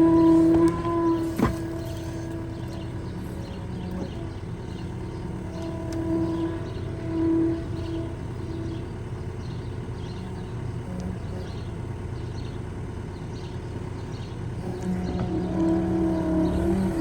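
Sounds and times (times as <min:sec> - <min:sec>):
farm loader engine running: 0:00.0 - 0:17.0
whining tone under load: 0:00.0 - 0:17.0.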